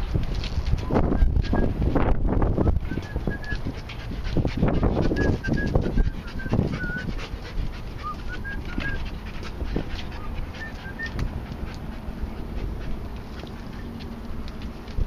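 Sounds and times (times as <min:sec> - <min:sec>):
dog panting and sniffing: 0:02.5 - 0:15.0.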